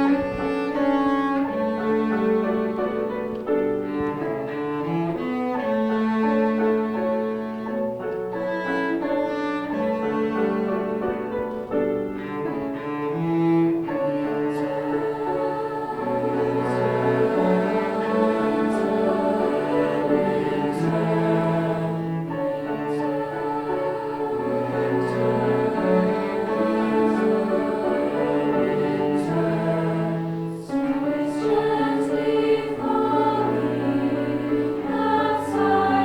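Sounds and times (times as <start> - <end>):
bowed string ensemble: 0.0 - 36.0.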